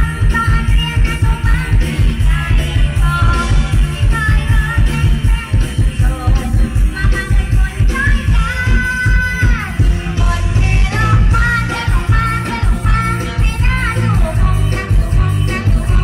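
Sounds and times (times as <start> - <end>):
band music through loudspeakers: 0.0 - 16.0
woman singing: 0.0 - 16.0.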